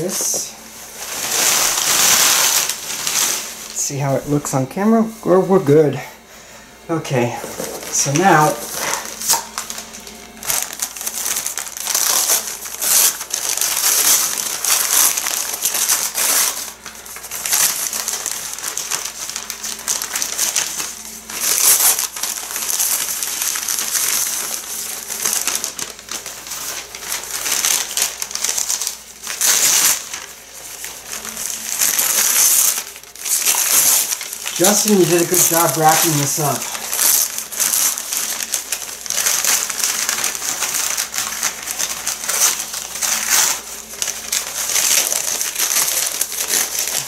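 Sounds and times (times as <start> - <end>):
newspaper crinkling and rustling: 0.0 - 6.0, 7.0 - 47.0.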